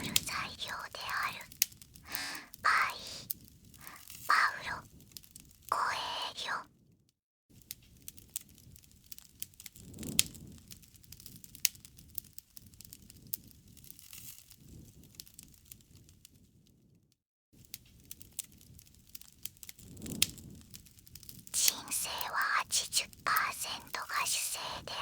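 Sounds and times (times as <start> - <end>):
fire popping: 0.0 - 5.8, 7.6 - 16.0, 17.6 - 24.9
campfire crackling: 0.0 - 6.4, 7.6 - 16.1, 17.6 - 25.0.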